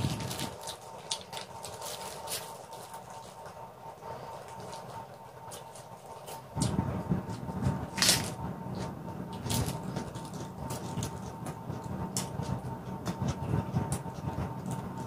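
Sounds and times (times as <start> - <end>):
chewing crunchy leaves: 0.0 - 15.0.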